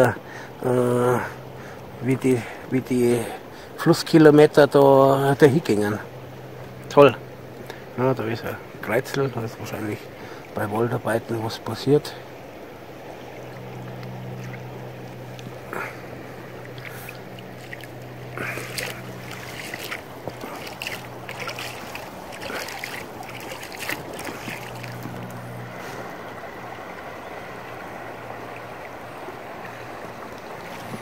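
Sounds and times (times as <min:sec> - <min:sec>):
steady low hum: 0:00.0 - 0:31.0
water lapping against a boat: 0:00.0 - 0:31.0.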